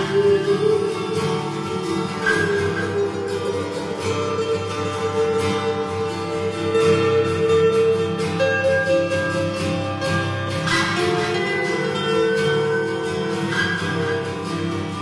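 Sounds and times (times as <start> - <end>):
solo guitar playing: 0.0 - 15.0.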